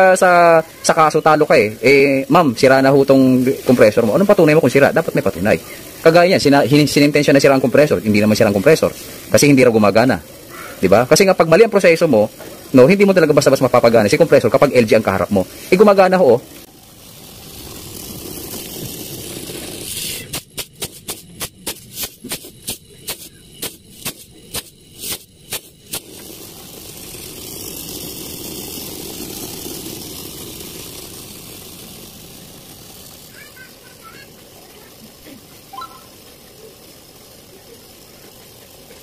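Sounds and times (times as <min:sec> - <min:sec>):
refrigerator compressor humming: 0:00.0 - 0:39.0.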